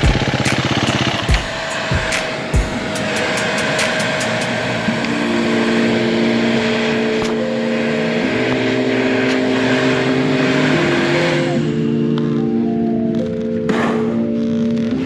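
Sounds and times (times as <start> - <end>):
dirt bike engine running: 0.0 - 15.0
organ-like background music: 0.0 - 15.0.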